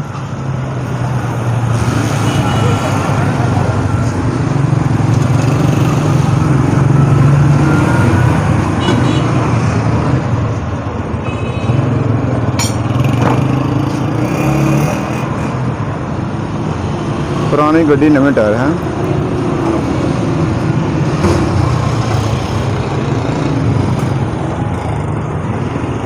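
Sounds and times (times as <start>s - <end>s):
street traffic: 0.0s - 26.0s.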